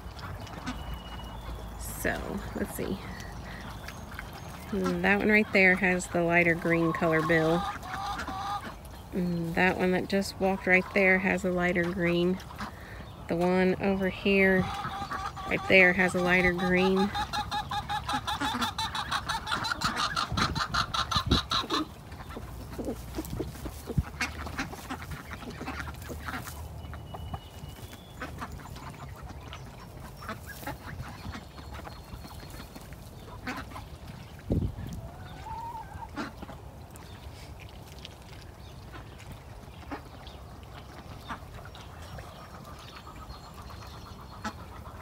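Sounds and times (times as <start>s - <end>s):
ducks quacking: 0.0s - 37.4s, 38.7s - 45.0s.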